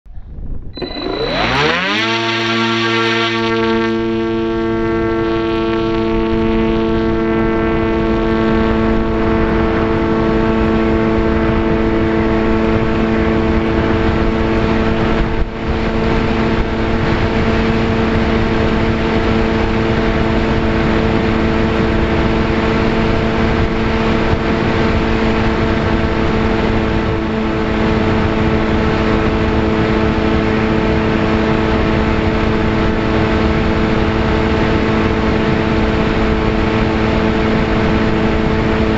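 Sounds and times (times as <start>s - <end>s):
electric motor and propeller: 0.8s - 38.9s.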